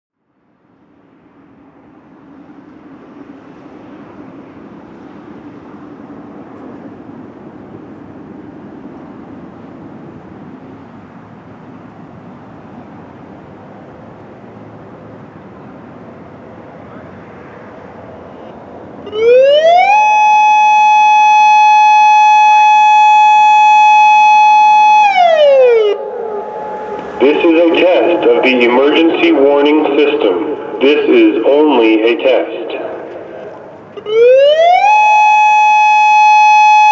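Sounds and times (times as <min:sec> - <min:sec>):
outdoor background rumble: 0:00.3 - 0:36.4.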